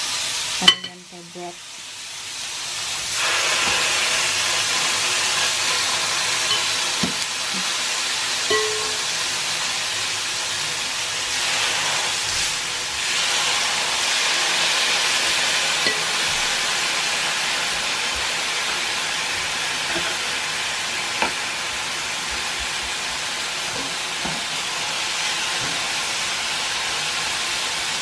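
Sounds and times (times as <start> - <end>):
steaks sizzling on grill: 0.0 - 28.0.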